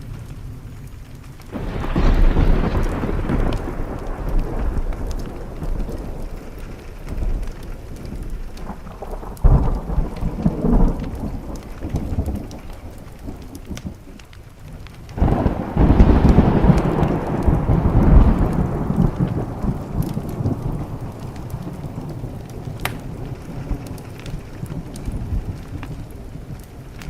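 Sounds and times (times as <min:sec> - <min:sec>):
rain on a window: 0:00.0 - 0:27.0
thunder rumbling: 0:00.0 - 0:27.0.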